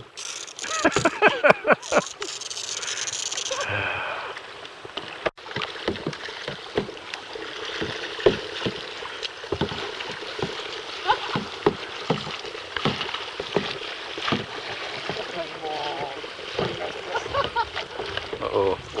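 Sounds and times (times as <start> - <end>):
paddle splashing water: 0.0 - 19.0.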